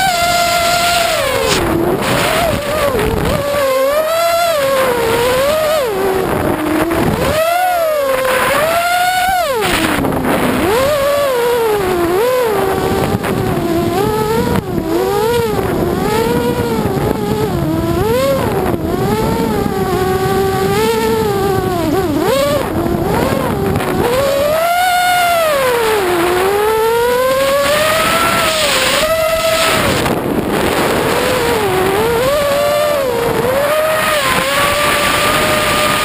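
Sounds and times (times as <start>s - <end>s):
drone motors and propellers whining: 0.0s - 36.0s.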